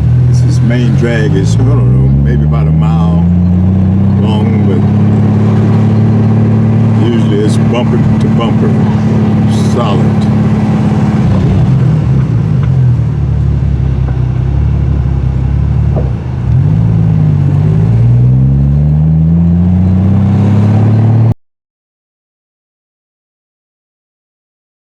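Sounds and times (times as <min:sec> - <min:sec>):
car engine accelerating: 0:00.0 - 0:21.4.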